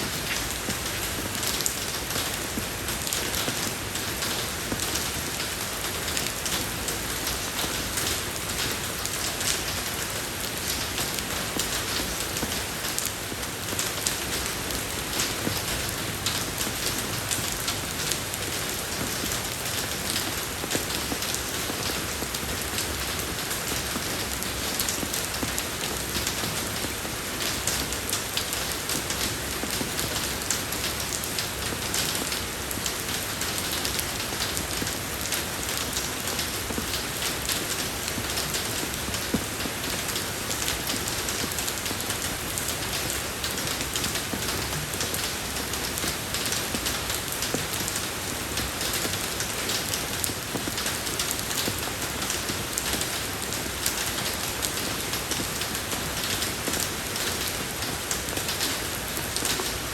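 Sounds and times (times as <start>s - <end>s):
rain falling on road: 0.0s - 59.9s.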